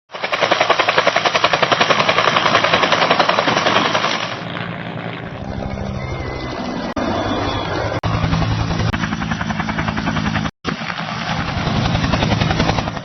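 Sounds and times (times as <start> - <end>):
helicopter rotor beating: 0.1 - 13.0.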